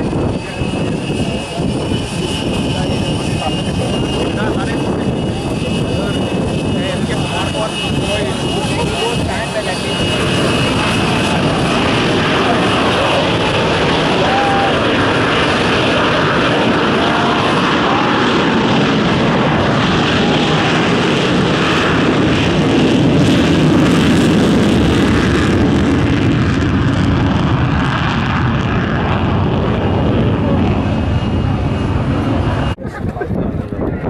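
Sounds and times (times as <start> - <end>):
jet engines roaring on takeoff: 0.0 - 34.0.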